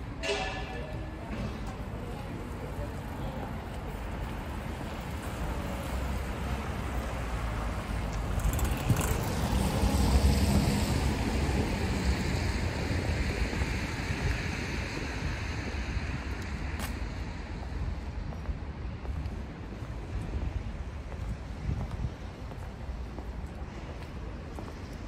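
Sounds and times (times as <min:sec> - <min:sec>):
city traffic rumble: 0:00.0 - 0:25.0
car tyres on wet asphalt: 0:02.4 - 0:25.0.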